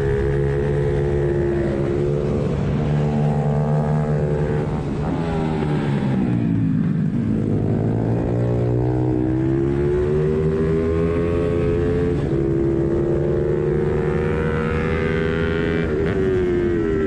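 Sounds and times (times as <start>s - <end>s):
motorbike engine running hard: 0.0s - 17.0s.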